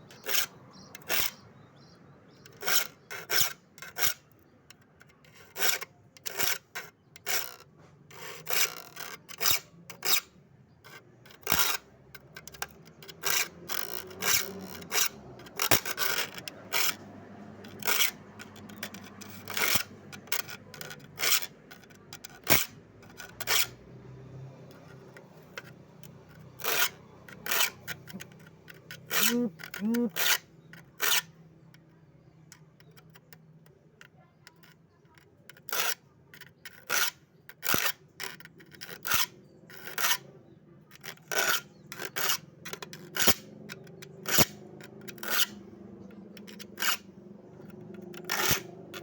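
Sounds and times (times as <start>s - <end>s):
metal file rasping on saw teeth: 0.1s - 1.4s, 2.4s - 23.8s, 24.7s - 31.4s, 35.5s - 40.3s, 40.9s - 49.0s.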